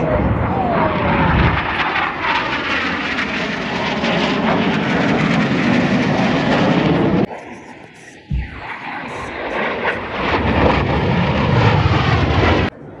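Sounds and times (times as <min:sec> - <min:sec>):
jet roaring overhead: 0:00.0 - 0:13.0.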